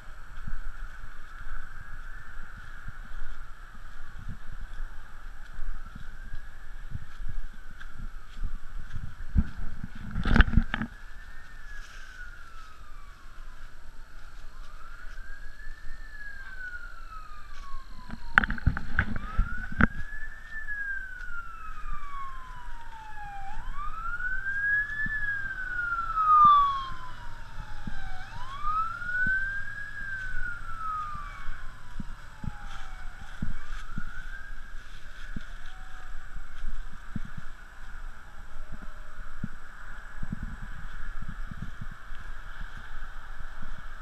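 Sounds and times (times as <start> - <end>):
distant siren wailing: 0.0 - 44.0
wind rumble on microphone: 0.0 - 44.0.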